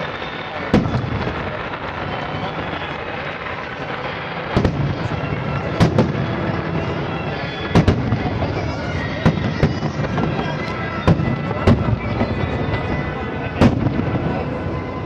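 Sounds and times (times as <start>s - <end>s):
fireworks booming: 0.0s - 15.0s
steady background noise: 0.0s - 15.0s.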